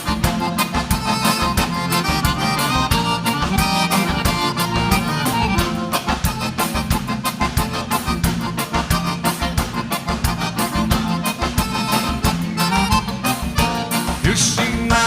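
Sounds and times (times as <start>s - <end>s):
accordion melody: 0.0s - 15.0s
bass: 0.0s - 15.0s
fast drum beat: 0.0s - 15.0s.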